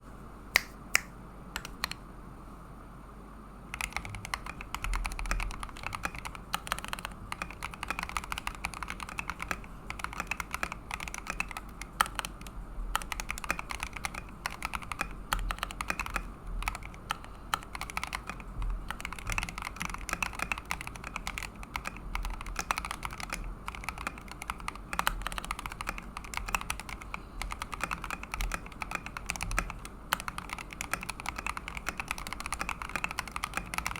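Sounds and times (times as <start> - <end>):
mechanical keyboard key clacks: 3.8 - 33.9.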